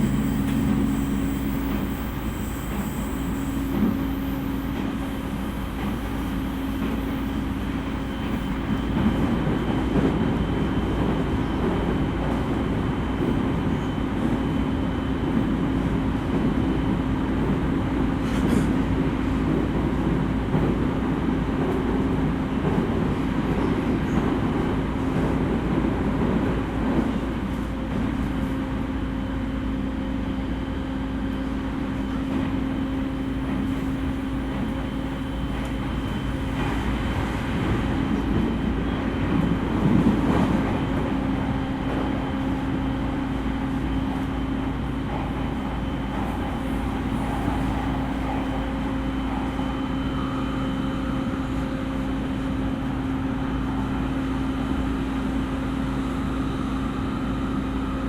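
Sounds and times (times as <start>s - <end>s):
train hum: 0.0s - 58.0s
train wheels rumbling on rails: 0.0s - 58.0s.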